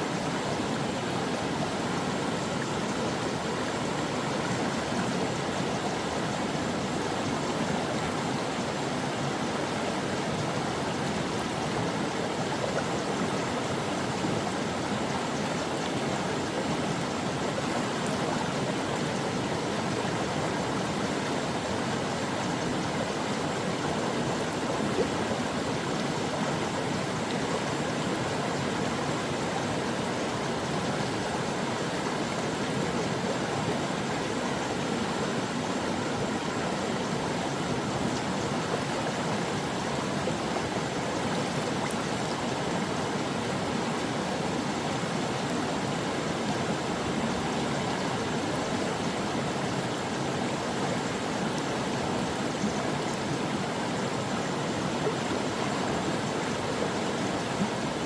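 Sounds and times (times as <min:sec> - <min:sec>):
creek water flowing: 0:00.0 - 0:58.0.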